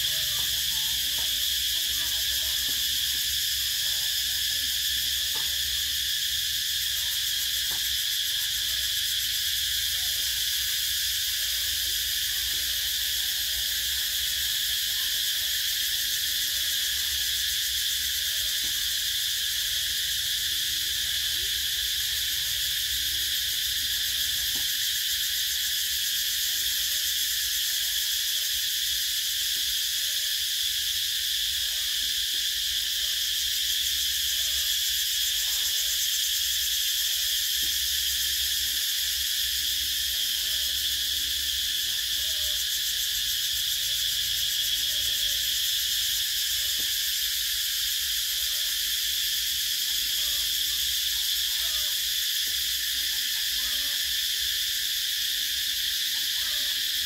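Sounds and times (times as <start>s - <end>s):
cicada buzzing: 0.0s - 57.0s.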